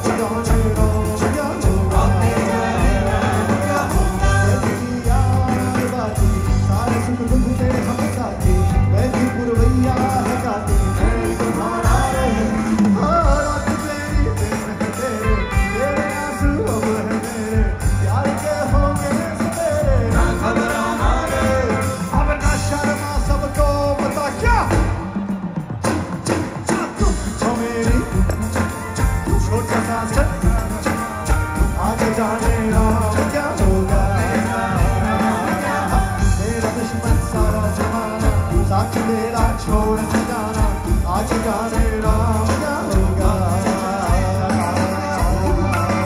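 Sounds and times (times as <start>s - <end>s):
drum beat: 0.0s - 46.0s
electric guitars: 0.0s - 46.0s
live rock band playing: 0.0s - 46.0s
singer's melody: 0.0s - 46.0s.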